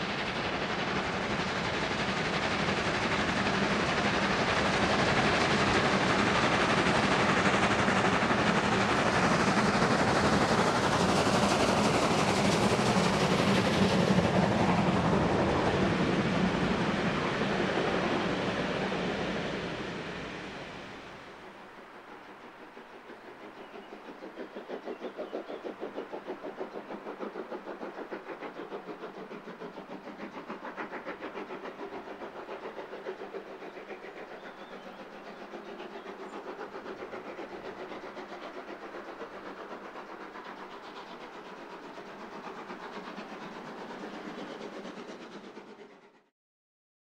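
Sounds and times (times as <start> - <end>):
steam hissing: 0.0 - 46.2
steam locomotive exhaust beats: 0.0 - 46.3.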